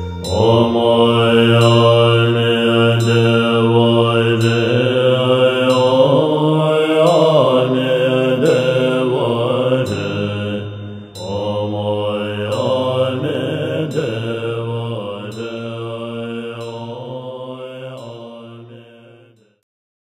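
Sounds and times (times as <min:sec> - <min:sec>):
low steady drone: 0:00.0 - 0:18.9
chanted mantra: 0:00.0 - 0:19.6.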